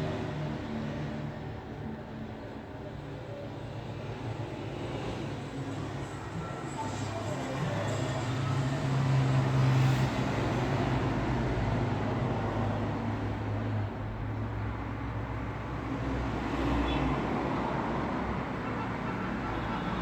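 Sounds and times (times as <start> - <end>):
road traffic rushing: 0.0 - 20.0.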